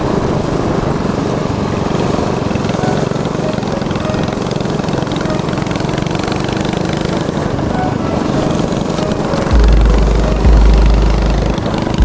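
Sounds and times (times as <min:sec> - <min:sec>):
mini bike engine running: 0:00.0 - 0:12.0.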